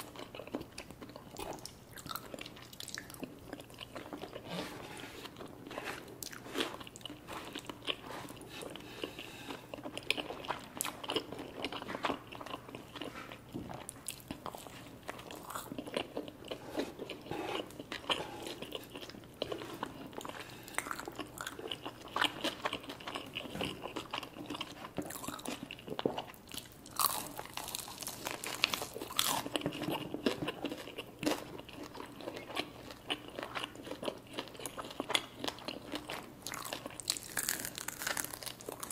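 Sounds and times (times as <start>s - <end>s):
biting and chewing crunches: 0.0s - 38.9s.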